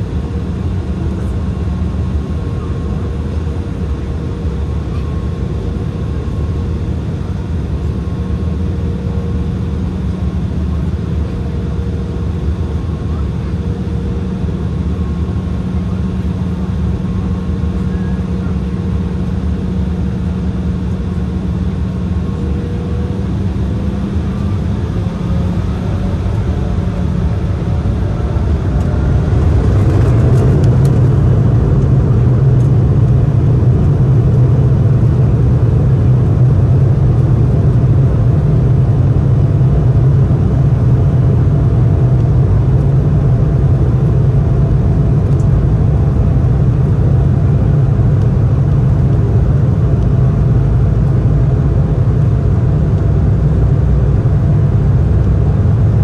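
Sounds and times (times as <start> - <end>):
jet engines humming: 0.0 - 56.0.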